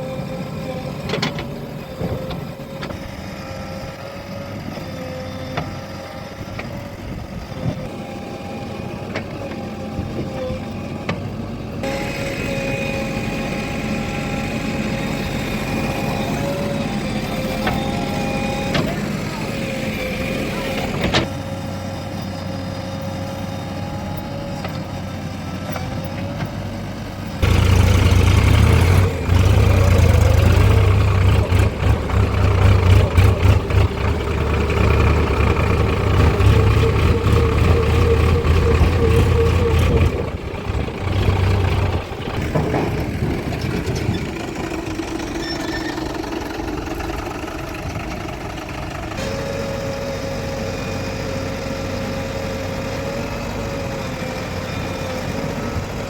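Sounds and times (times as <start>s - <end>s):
engine whine: 0.0s - 56.0s
heavy diesel engine running: 0.0s - 56.0s.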